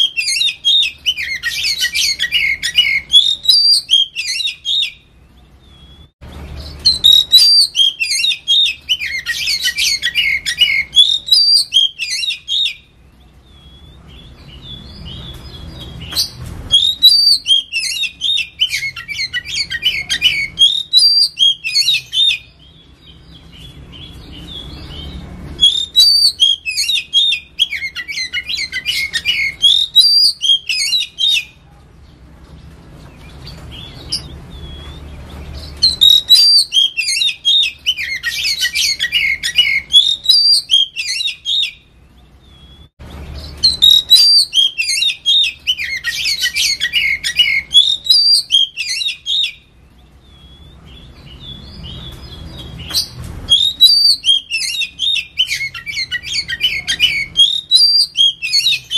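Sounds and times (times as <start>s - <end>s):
bird singing whistles and chatter: 0.0s - 5.0s, 5.6s - 31.6s, 33.2s - 58.9s.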